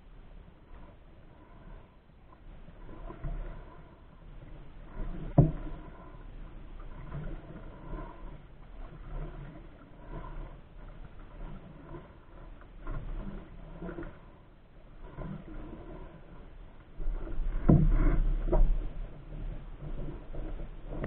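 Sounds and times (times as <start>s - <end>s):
paddle strokes swishing water: 0.0s - 21.0s.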